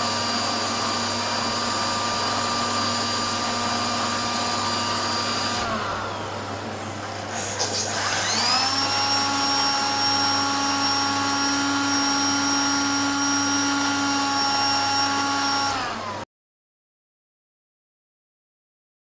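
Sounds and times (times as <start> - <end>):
vacuum cleaner motor whining: 0.0 - 16.3.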